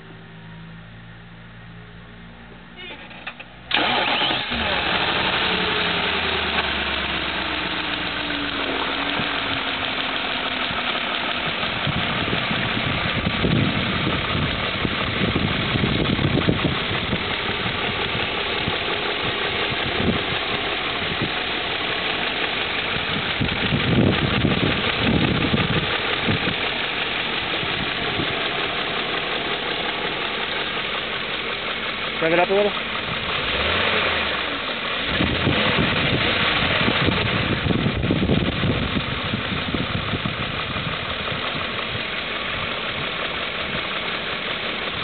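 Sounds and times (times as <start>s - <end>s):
car engine starting and idling: 0.0s - 45.0s
engine ticking: 2.8s - 45.0s.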